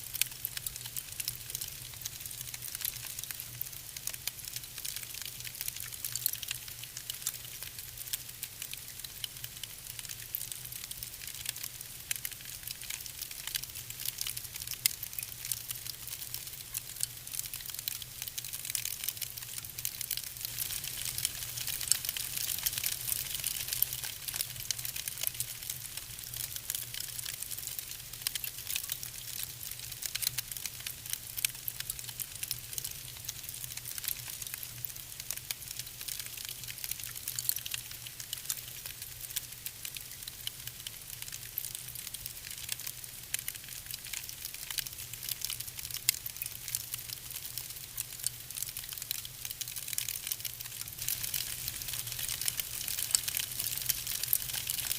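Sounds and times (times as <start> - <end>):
wood fire crackling: 0.1 - 54.9.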